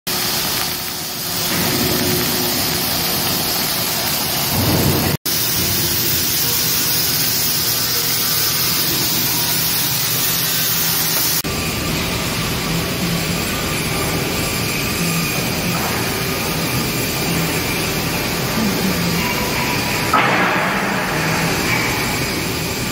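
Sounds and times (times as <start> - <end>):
arc welding: 0.1 - 22.9
fabrication shop hiss and rumble: 0.1 - 22.9.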